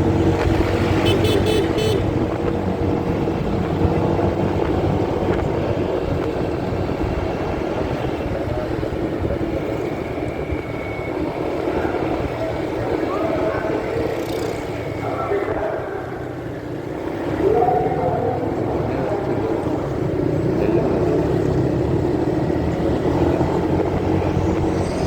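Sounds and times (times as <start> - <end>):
muffled motorcycle engine hum: 0.0 - 25.0
road and wind rumble: 0.0 - 25.0.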